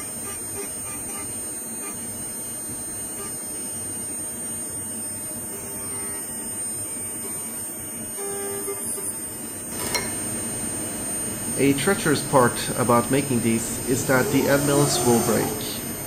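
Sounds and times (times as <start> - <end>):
milling spindle high-pitched whine: 0.0 - 16.0.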